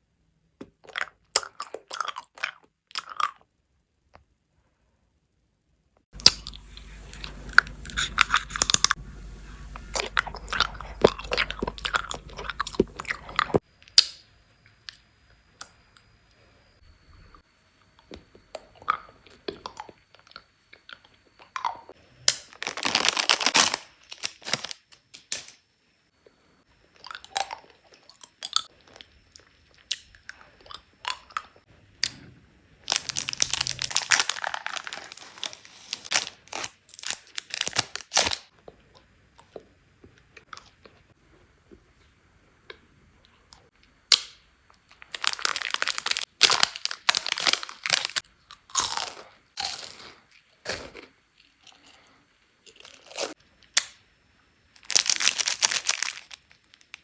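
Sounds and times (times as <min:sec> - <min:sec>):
candy being chewed and crunched: 0:00.6 - 0:03.6, 0:06.2 - 0:14.2, 0:18.0 - 0:25.6, 0:26.8 - 0:41.1, 0:42.7 - 0:54.0, 0:54.7 - 0:57.0.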